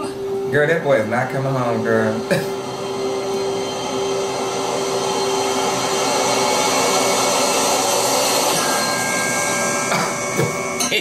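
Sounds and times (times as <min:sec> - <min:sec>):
high held tone: 0:00.0 - 0:11.0
rushing drone with held tones: 0:00.0 - 0:11.0.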